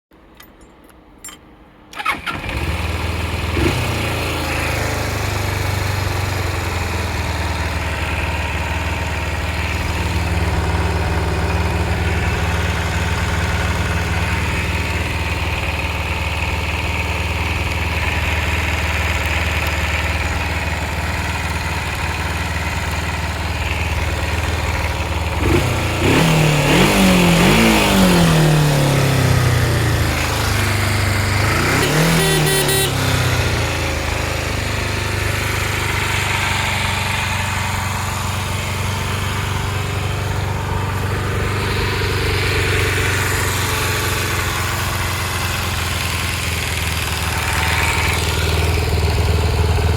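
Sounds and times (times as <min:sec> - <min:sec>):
motorcycle engine starting and idling: 0:00.2 - 0:49.9
motorcycle engine revving: 0:02.0 - 0:49.9.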